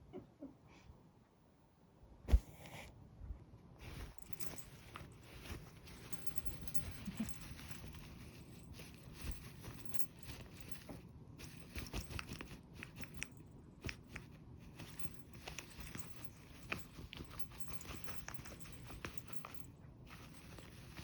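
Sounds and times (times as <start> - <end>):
crisp crunches and small clicks: 3.8 - 21.0.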